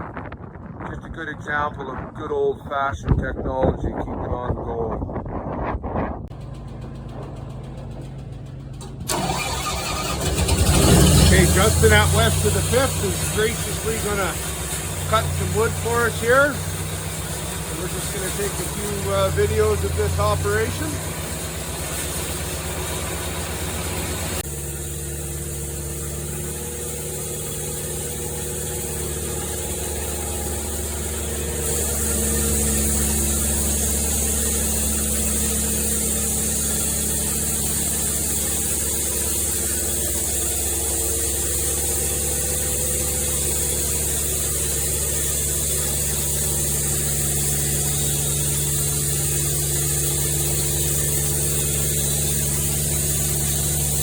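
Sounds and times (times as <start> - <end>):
sawmill machinery humming: 6.3 - 54.0.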